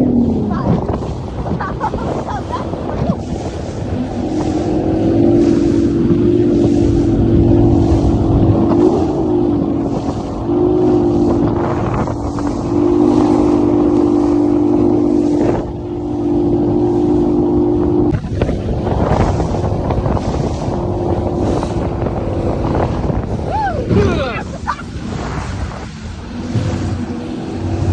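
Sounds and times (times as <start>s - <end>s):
boat engine running: 0.0s - 27.9s
wind noise: 0.0s - 27.9s.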